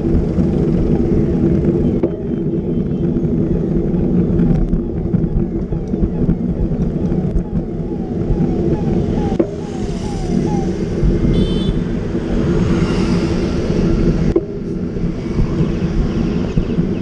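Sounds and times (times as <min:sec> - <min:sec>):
bicycle tyre noise on road: 0:00.0 - 0:17.0
wind buffeting microphone: 0:00.0 - 0:17.0.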